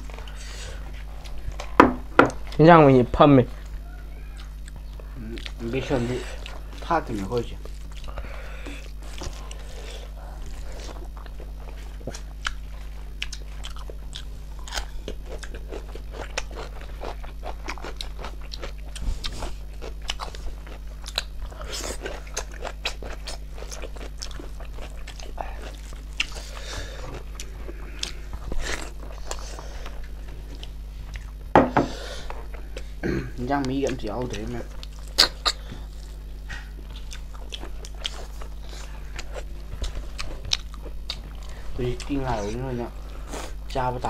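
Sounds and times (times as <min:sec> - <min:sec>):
chewing and crunching: 0:00.0 - 0:31.5, 0:32.2 - 0:44.0.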